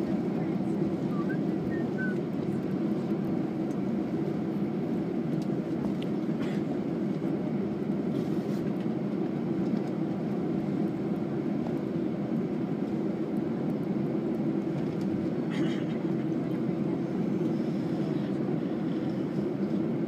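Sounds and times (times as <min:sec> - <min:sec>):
aircraft cabin low rumble: 0:00.0 - 0:20.0.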